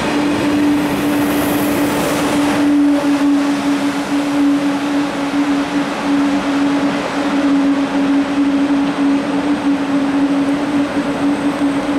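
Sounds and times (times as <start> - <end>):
train motor humming: 0.0 - 11.9
train rolling rumble: 0.0 - 11.9.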